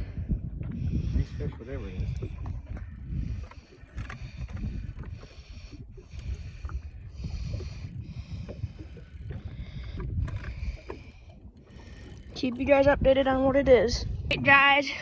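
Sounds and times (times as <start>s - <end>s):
wind rumbling on microphone: 0.0s - 15.0s
fishing reel whirring: 2.0s - 14.8s.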